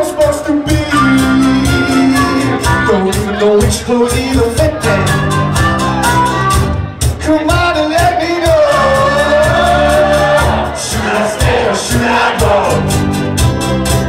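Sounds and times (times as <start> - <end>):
person singing: 0.0 - 6.2, 7.2 - 13.0
live band playing: 0.0 - 14.0.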